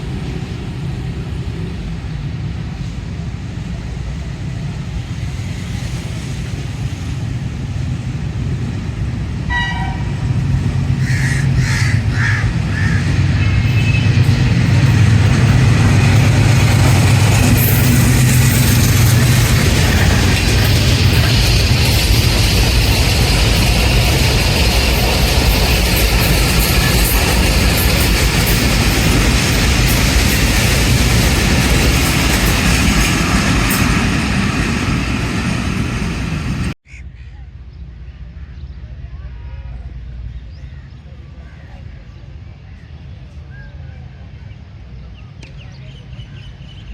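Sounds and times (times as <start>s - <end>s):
train engine drone: 0.0s - 46.9s.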